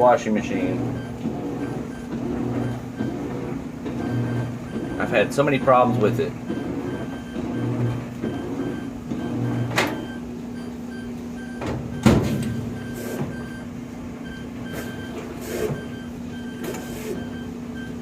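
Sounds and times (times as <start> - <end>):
washing machine high beeps: 0.0 - 18.0
washing machine hum: 0.0 - 18.0.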